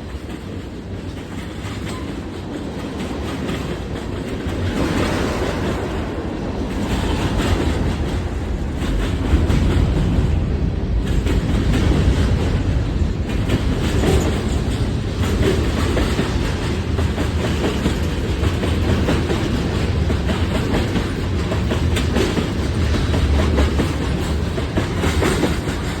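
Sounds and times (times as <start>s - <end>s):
wheels clicking over rail joints: 0.0s - 5.8s, 11.0s - 26.0s
freight train rumbling past: 0.0s - 26.0s.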